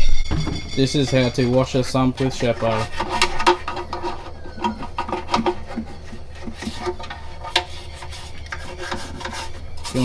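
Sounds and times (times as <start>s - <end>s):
scrubbing and rubbing by hand: 0.4s - 10.0s.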